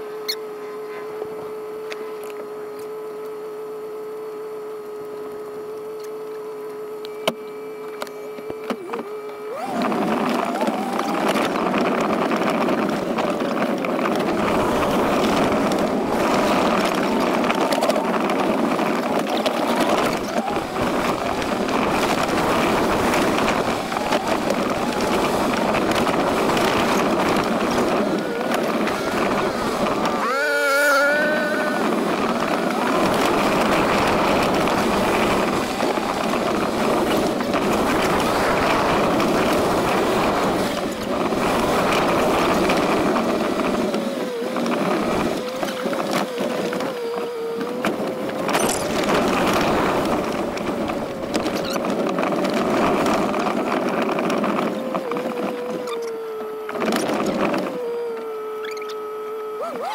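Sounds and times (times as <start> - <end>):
dirt bike engine running: 1.2 - 59.9
wind noise on microphone: 8.6 - 59.9.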